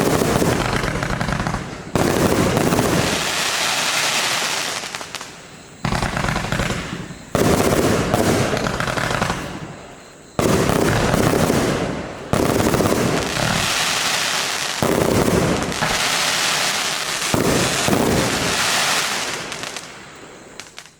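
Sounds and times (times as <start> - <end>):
firework volleys bangs and crackle: 0.0 - 20.9.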